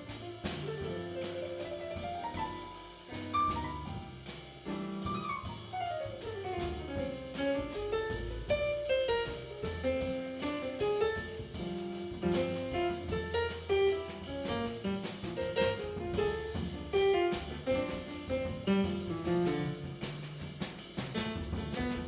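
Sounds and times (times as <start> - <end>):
bass: 0.0 - 22.0
busy drum kit: 0.0 - 22.0.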